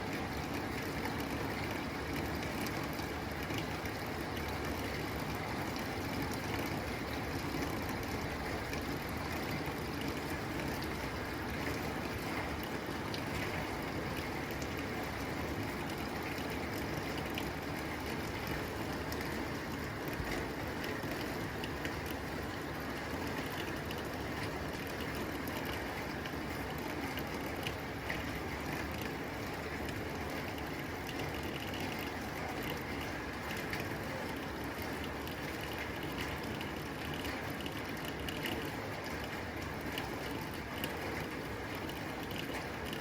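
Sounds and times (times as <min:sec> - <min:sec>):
raindrops ticking on tin roof: 0:00.0 - 0:43.0.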